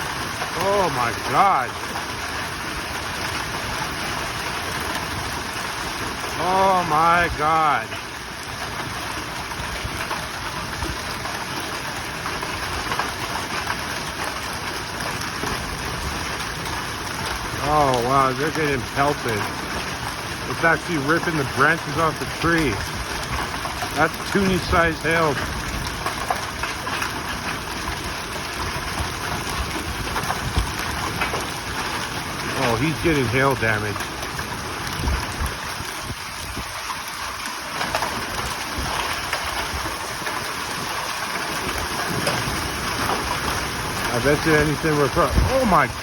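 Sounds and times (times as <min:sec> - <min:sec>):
hailstones clicking on surfaces: 0:00.0 - 0:46.0
heavy rain hissing: 0:00.0 - 0:46.0.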